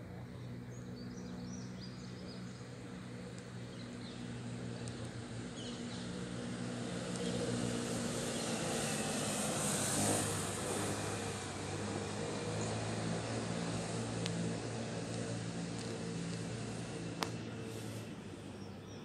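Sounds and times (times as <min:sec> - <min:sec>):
distant engine drone: 0:00.0 - 0:19.0.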